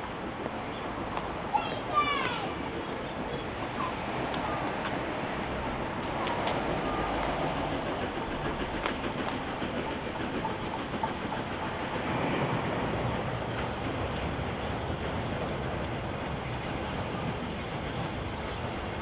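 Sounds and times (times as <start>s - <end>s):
steam locomotive rumbling: 0.0s - 19.0s.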